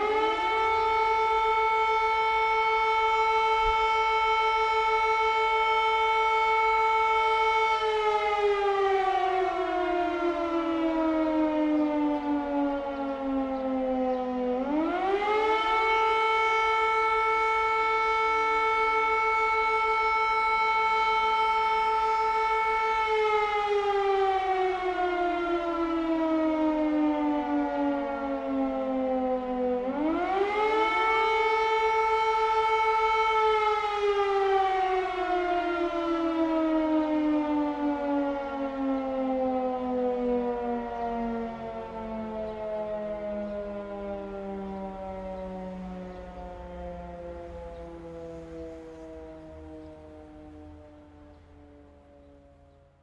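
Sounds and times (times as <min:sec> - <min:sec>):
air raid siren wailing: 0:00.0 - 0:53.0.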